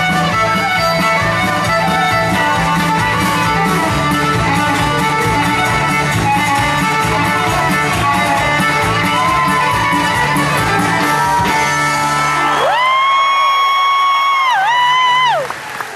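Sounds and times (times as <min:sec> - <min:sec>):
live band playing jig on guitars: 0:00.0 - 0:13.2.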